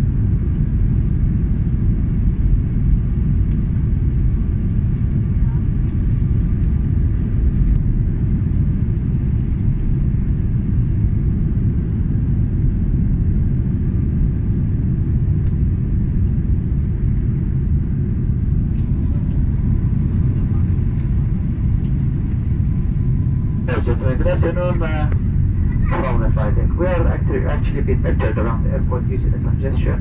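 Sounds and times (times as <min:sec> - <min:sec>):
airliner cabin low rumble: 0:00.0 - 0:30.0.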